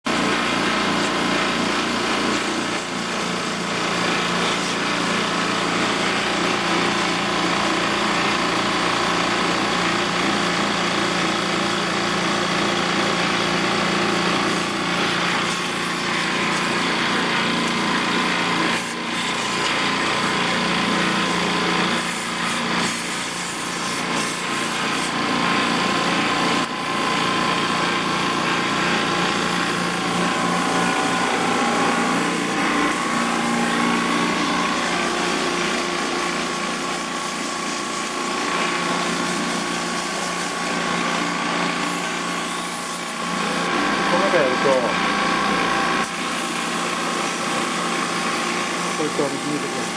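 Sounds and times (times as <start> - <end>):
small electric motor running: 0.1 - 49.9.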